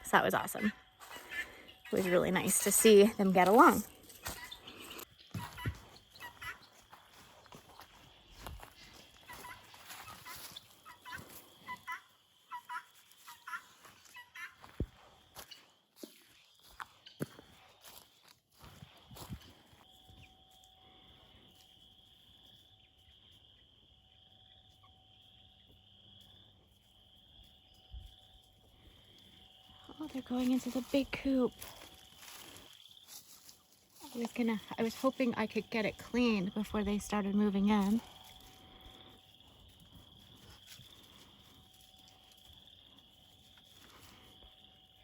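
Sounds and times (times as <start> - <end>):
high-pitched insect trill: 0.0 - 45.0.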